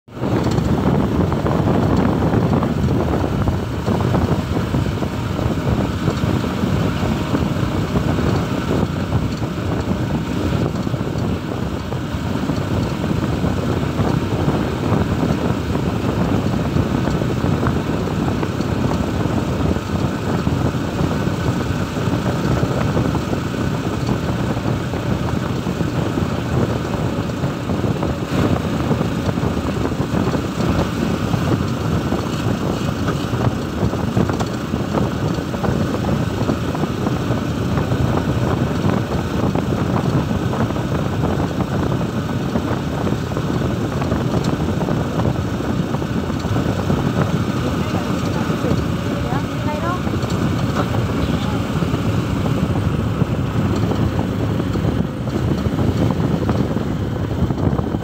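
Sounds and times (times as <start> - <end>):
motorcycle engine running: 0.1 - 58.0.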